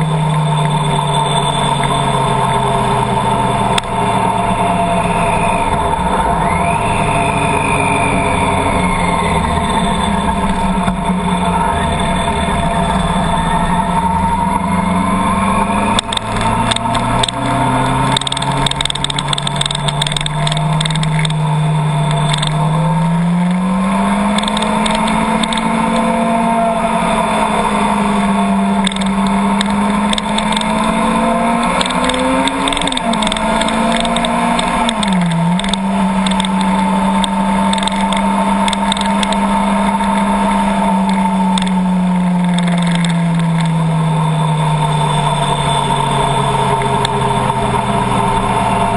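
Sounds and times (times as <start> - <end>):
car engine: 0.0 - 48.9
road noise: 0.0 - 48.9.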